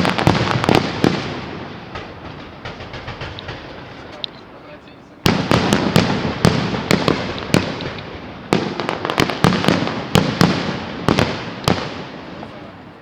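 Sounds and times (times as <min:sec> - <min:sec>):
echoing rumble: 0:00.0 - 0:12.8
fireworks bangs: 0:00.0 - 0:13.0.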